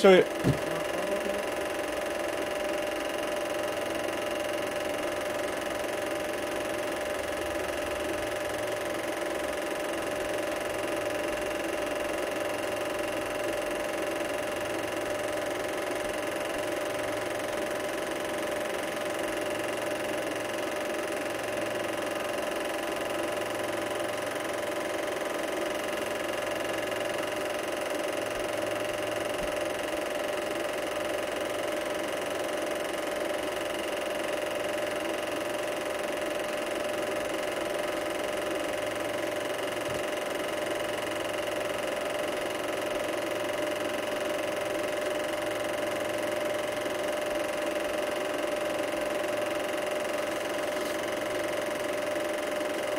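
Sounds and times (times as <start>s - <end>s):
film projector whirring: 0.0s - 52.9s.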